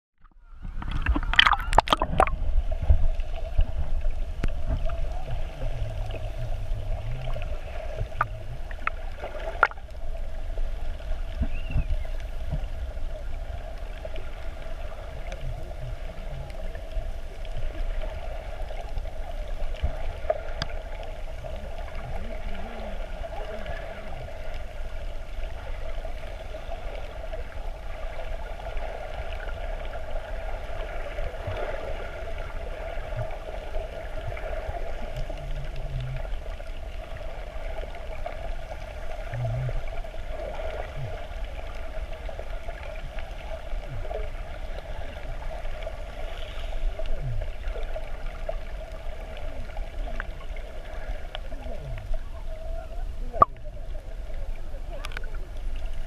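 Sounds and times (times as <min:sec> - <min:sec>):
steady underwater hum: 0:00.2 - 0:56.0
water sloshing and gurgling: 0:00.2 - 0:56.0.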